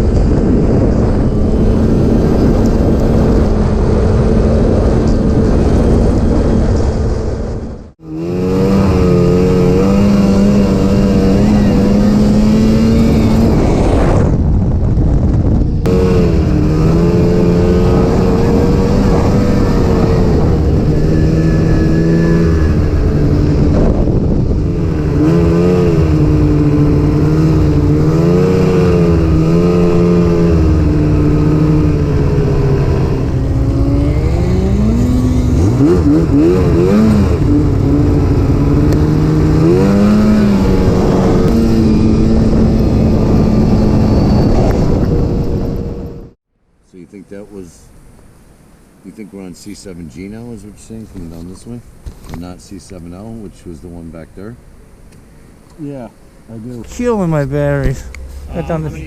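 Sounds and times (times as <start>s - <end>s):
snowmobile engine revving: 0.0s - 14.4s, 15.8s - 46.4s, 56.5s - 59.0s.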